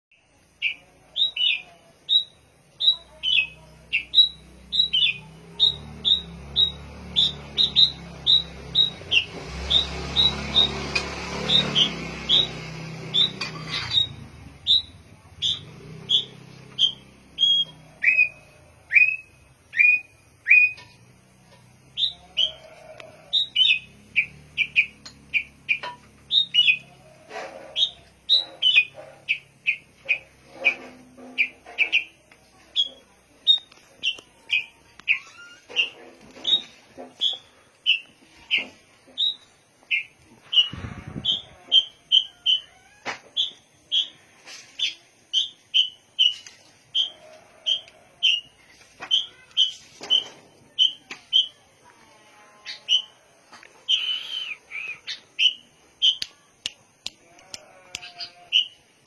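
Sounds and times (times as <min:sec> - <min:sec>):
songbird chirping: 0:00.1 - 0:59.0.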